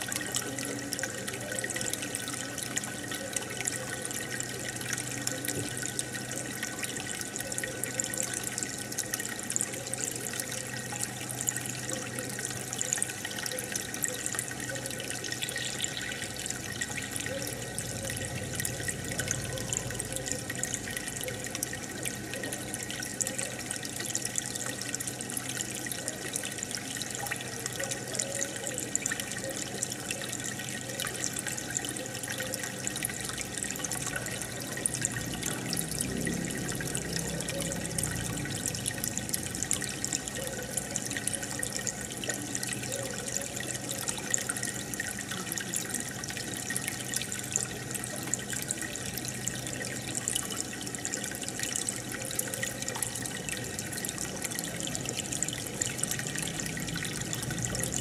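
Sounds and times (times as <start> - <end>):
aquarium water bubbling: 0.0 - 58.0.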